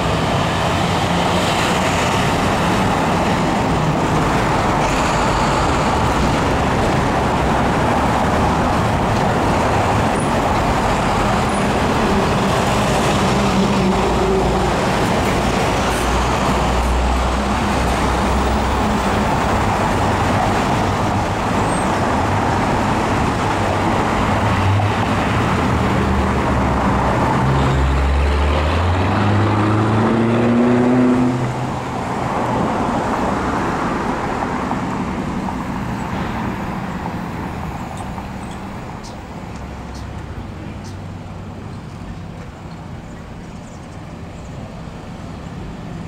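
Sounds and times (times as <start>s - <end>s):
cars driving past: 0.0s - 43.1s.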